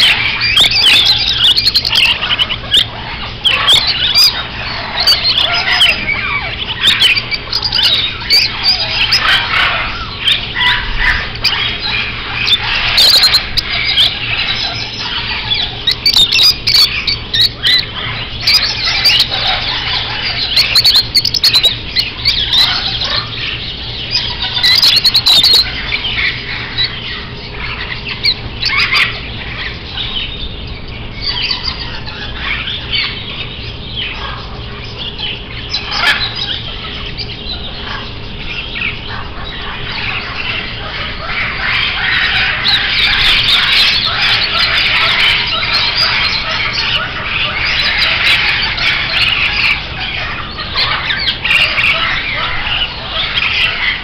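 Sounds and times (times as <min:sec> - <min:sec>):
caged birds chirping and squawking: 0:00.0 - 0:54.0.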